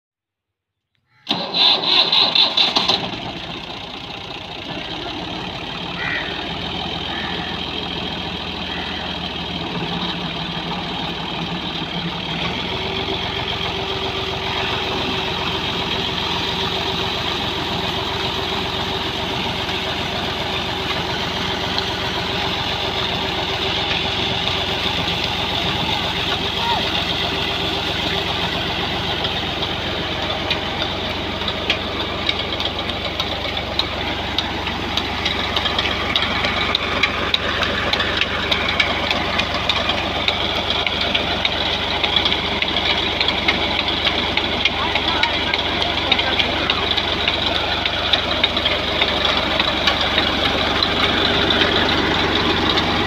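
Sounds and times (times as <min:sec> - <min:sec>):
diesel engine starting: 0:01.3 - 0:53.0
water pump hum: 0:03.8 - 0:53.0.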